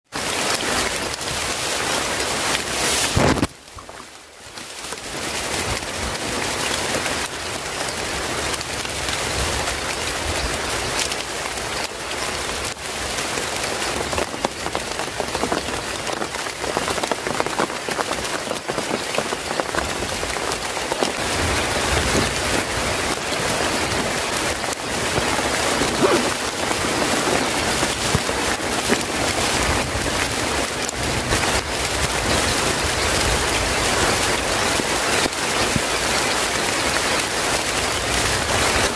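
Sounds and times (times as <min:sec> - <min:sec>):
heavy rain: 0:00.1 - 0:38.9.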